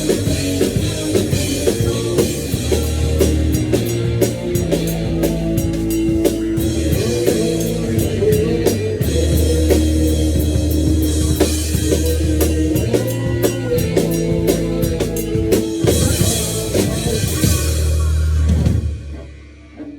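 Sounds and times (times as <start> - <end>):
electric guitar and bass: 0.0 - 19.3
rock drum kit playing: 0.0 - 19.4.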